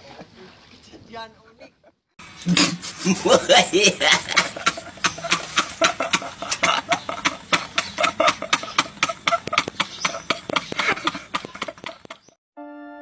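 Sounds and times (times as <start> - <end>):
men laughing uncontrollably: 1.7 - 12.4.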